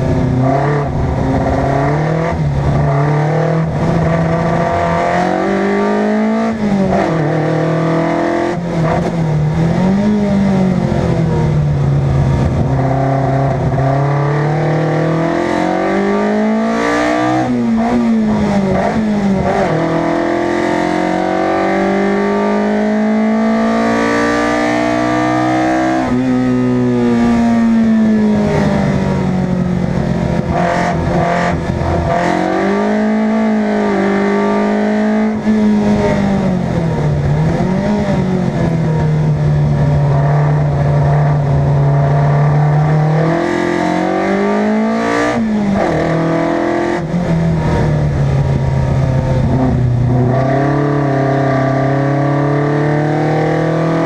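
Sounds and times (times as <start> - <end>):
race car engine revving: 0.0 - 54.0
road and tyre noise: 0.0 - 54.0.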